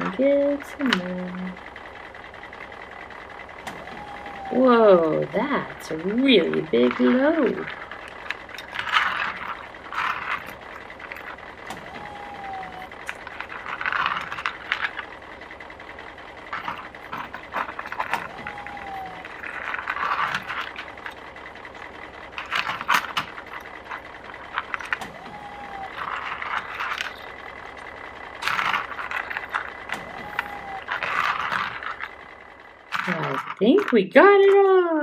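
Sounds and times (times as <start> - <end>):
plastic toy pieces rattling: 0.0 - 1.6, 3.8 - 15.5, 16.3 - 35.0.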